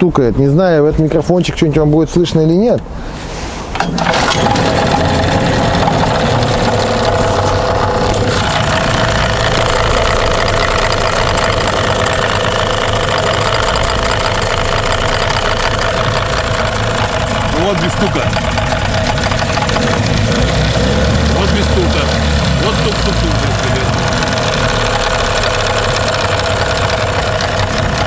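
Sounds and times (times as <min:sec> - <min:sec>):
outboard motor running: 0:04.0 - 0:28.0.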